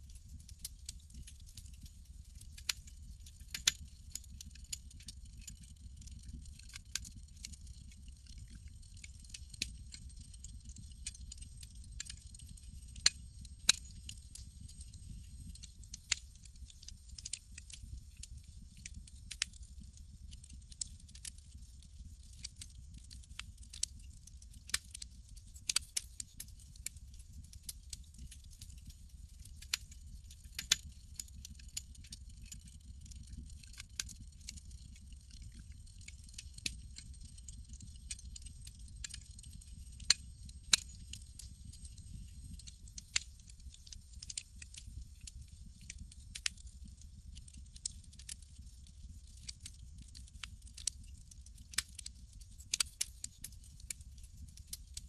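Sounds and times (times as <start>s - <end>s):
low rumble of burning fire: 0.0s - 55.0s
campfire crackling and popping: 0.2s - 54.8s.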